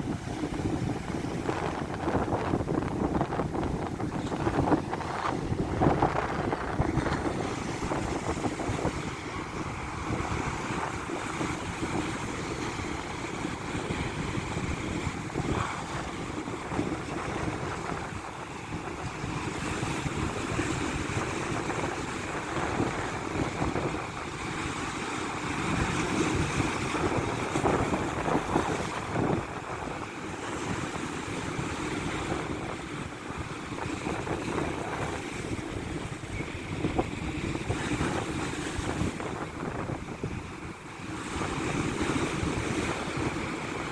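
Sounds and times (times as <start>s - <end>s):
waves breaking on shore: 0.0s - 43.9s
wind buffeting microphone: 0.0s - 43.9s.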